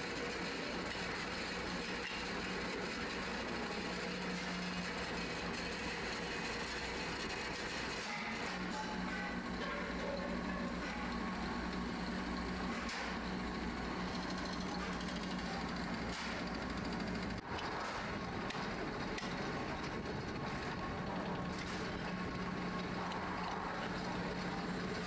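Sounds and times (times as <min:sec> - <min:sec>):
machinery motor hum: 0:00.0 - 0:25.0.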